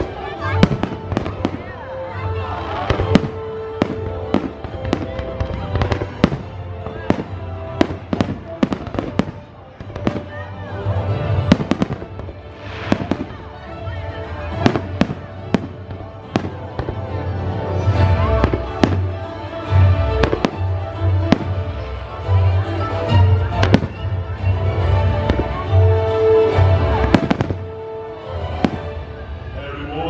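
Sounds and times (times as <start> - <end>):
fireworks bangs and crackles: 0.0 - 29.6.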